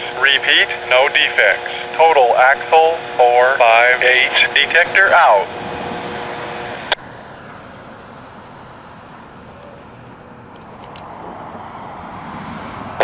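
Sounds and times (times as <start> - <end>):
rushing outdoor background hiss: 0.0 - 11.8.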